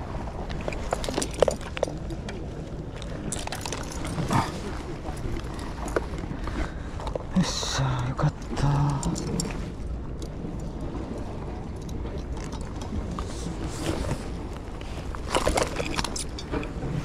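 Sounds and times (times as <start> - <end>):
sea waves: 0.0 - 17.0
wind: 0.0 - 17.0.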